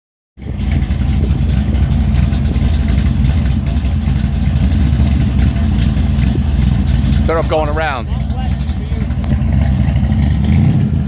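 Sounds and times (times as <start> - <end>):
car engine idling loudly: 0.4 - 11.0.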